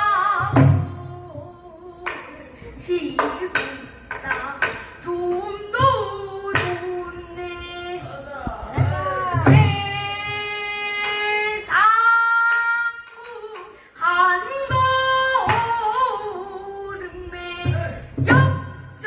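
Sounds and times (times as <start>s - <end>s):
child singing with vibrato: 0.0s - 19.0s.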